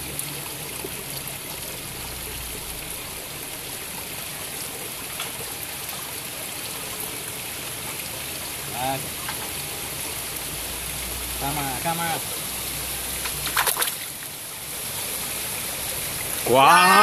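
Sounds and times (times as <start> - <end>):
water running over rocks: 0.0 - 17.0.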